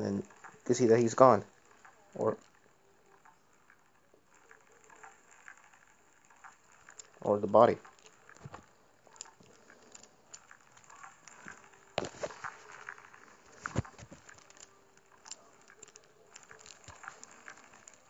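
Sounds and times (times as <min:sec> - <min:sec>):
clicks: 0:00.0 - 0:18.0
faint crackling: 0:00.0 - 0:18.0
faint steady hum: 0:00.0 - 0:18.0.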